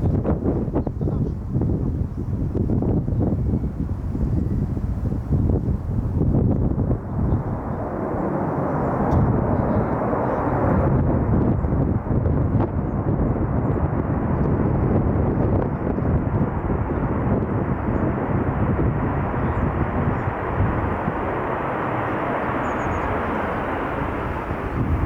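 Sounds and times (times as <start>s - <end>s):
jet engine roar: 0.0s - 25.0s
wind buffeting microphone: 0.0s - 25.0s.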